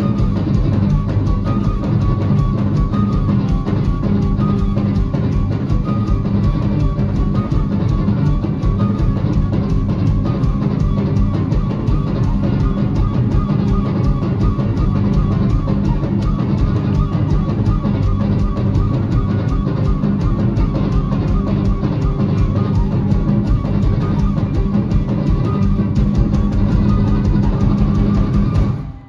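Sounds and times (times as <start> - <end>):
drum kit beat: 0.0 - 29.0
electric guitar: 0.0 - 29.0
flute melody: 0.0 - 29.0.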